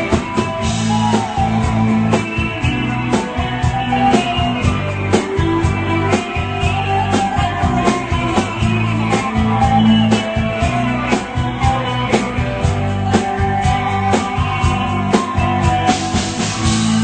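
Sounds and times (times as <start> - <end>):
bass: 0.0 - 17.0
guitar: 0.0 - 17.0
steady drum beat: 0.0 - 17.0.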